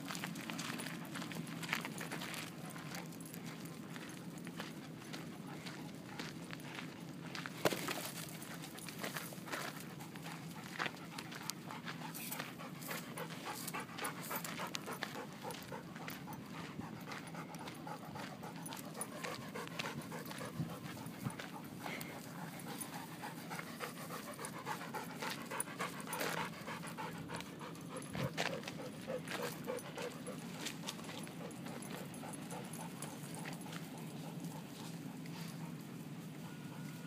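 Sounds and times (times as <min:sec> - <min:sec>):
dogs panting: 0:00.0 - 0:37.0.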